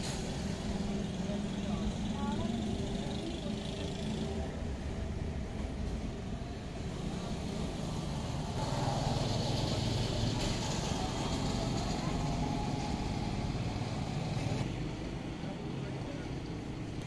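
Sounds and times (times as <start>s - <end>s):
motor vehicle noise: 0.0s - 17.0s.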